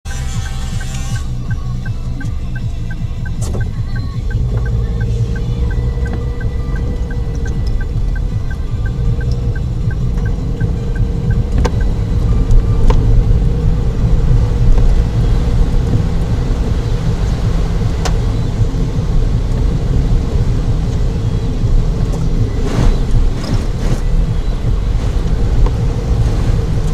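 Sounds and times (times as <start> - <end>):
engine and road rumble: 0.0 - 26.9.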